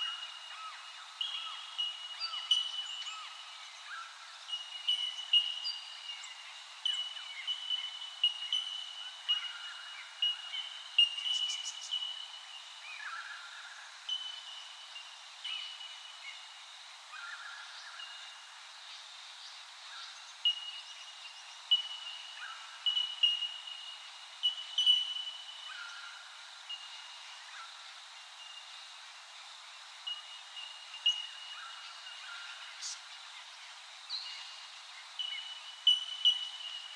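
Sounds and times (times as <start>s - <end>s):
light background hiss: 0.0s - 36.9s.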